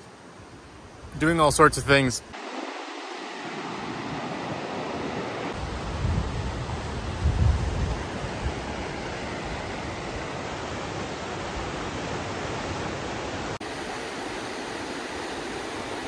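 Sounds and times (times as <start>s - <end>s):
whitewater rushing over rapids: 2.3s - 16.0s.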